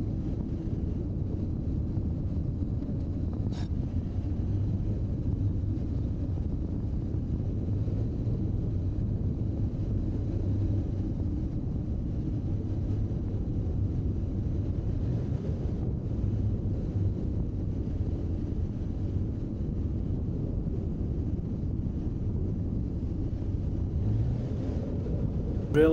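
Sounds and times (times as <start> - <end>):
wind noise on microphone: 0.0 - 25.9.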